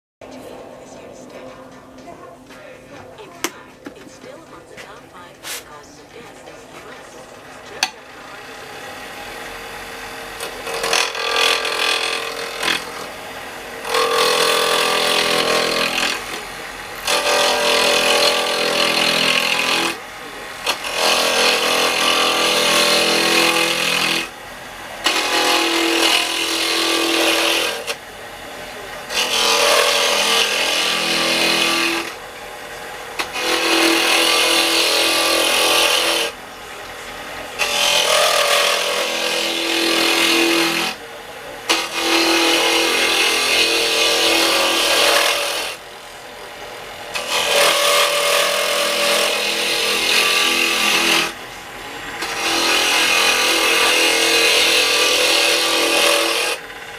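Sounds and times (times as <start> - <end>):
gouge cutting wood on a lathe: 6.4 - 56.9.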